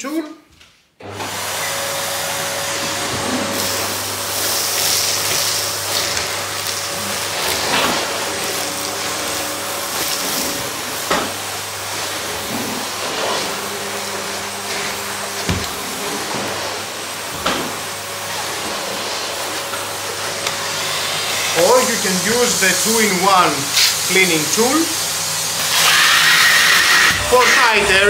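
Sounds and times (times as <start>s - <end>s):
vacuum cleaner running: 1.0s - 28.0s.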